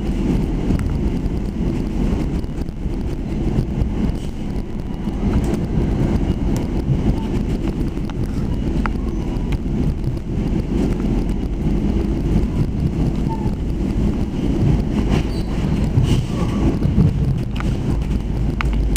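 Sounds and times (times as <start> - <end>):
train rumbling: 0.0 - 18.9
wind buffeting microphone: 0.0 - 18.9.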